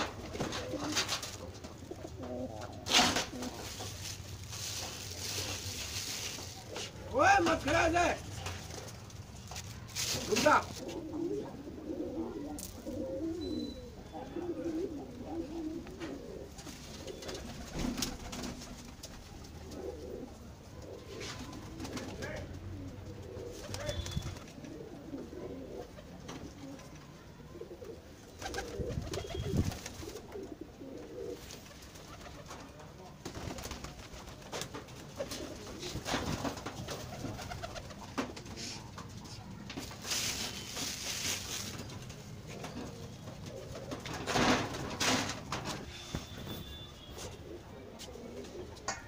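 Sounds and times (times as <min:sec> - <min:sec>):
pigeons cooing: 0:00.0 - 0:09.5, 0:10.1 - 0:49.0.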